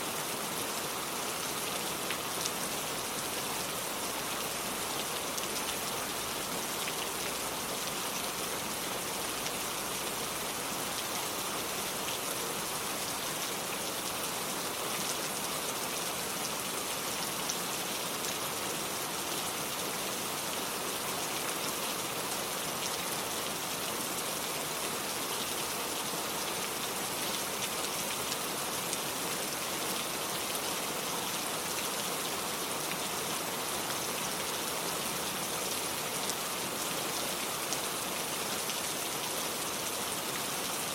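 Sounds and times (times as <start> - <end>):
rain on hard surfaces: 0.0 - 40.9.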